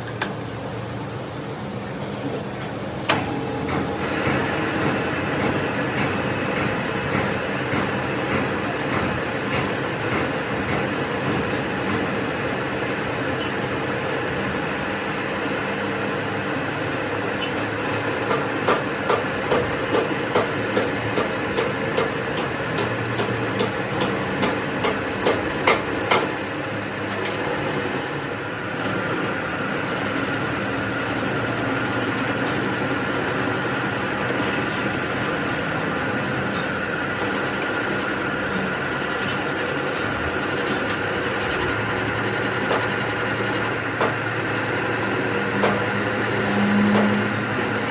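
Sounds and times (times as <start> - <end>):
metalworking machine whining: 0.0 - 47.9.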